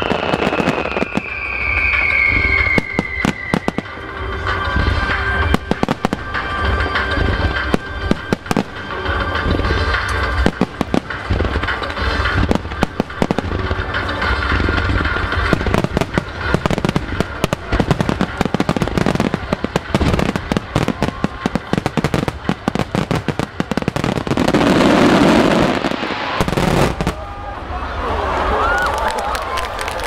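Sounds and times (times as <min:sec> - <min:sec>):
loud continuous rush of noise: 0:00.0 - 0:30.0.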